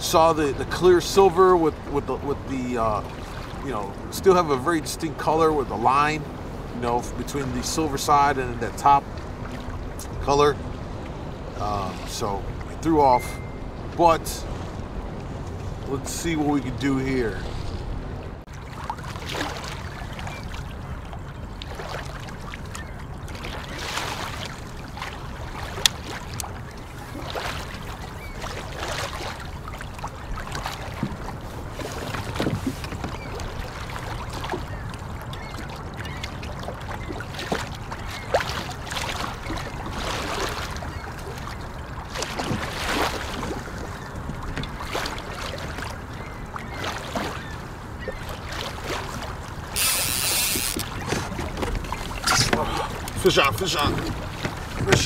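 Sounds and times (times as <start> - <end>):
small waves lapping against hull: 0.0 - 55.0.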